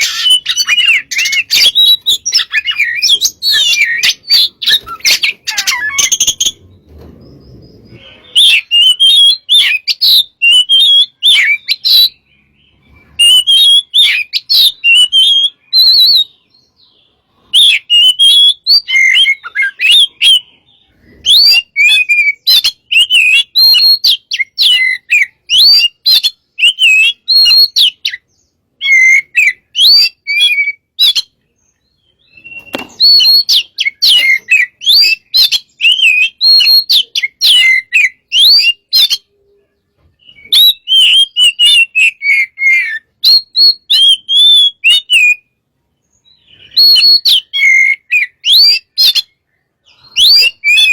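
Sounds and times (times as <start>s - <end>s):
songbird whistles and trills: 0.0s - 50.9s.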